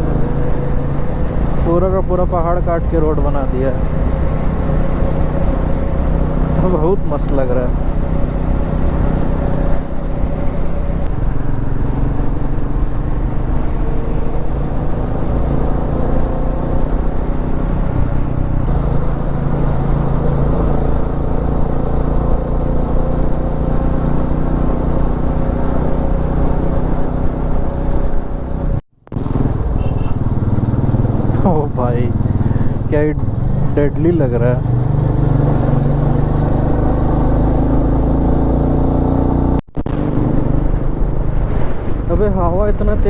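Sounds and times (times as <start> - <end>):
motorcycle engine cruising: 0.0 - 43.0
wind and road noise: 0.0 - 43.0.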